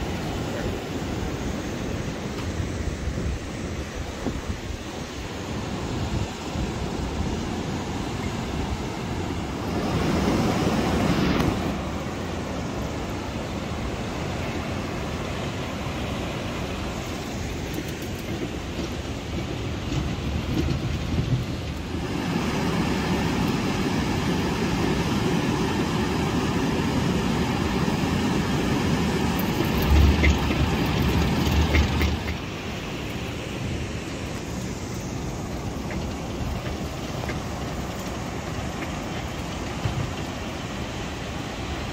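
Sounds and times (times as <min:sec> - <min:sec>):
wind buffeting microphone: 0:01.7 - 0:12.1, 0:16.3 - 0:40.9.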